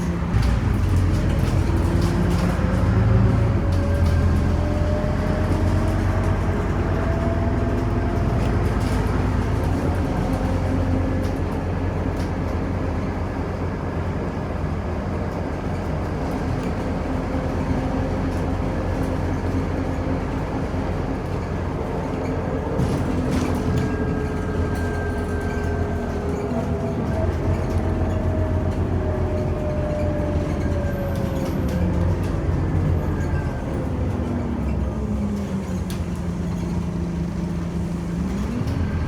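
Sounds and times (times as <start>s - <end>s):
bus engine rumble and whine: 0.0s - 39.0s.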